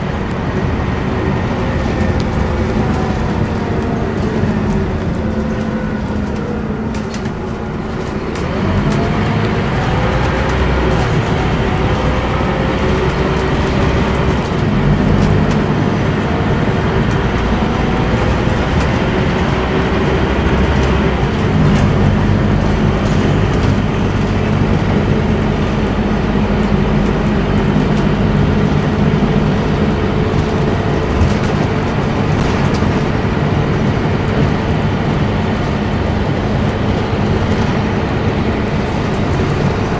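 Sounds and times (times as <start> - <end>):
bus diesel engine: 0.0 - 39.9
road and body noise: 0.0 - 39.9.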